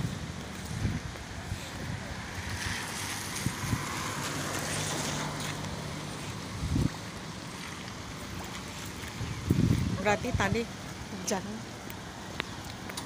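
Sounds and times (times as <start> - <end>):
traffic hum: 0.0 - 13.0
wind rumbling on microphone: 0.0 - 13.0.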